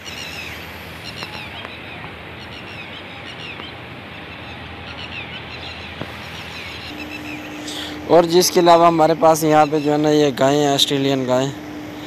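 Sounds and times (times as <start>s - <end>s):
lapwings calling: 0.0s - 12.0s
steady low hum: 0.0s - 12.0s.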